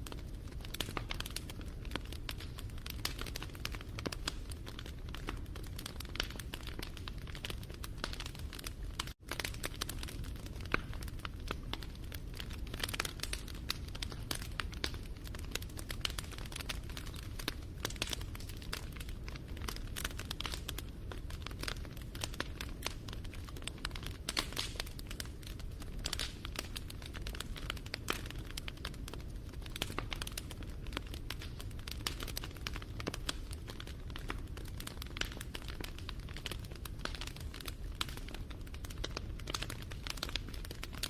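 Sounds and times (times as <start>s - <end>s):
campfire crackling and snapping: 0.0s - 41.0s
low rumble of flames: 0.0s - 41.0s.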